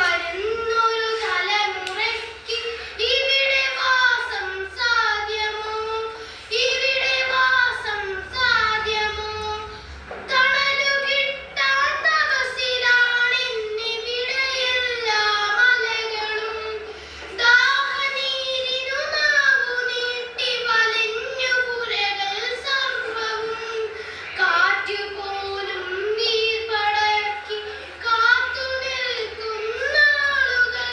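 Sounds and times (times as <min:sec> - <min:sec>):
child singing: 0:00.0 - 0:30.9.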